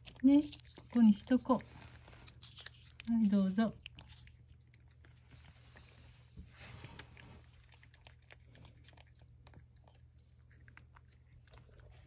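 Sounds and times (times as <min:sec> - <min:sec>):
cat licking: 0:00.0 - 0:03.1, 0:03.7 - 0:12.0.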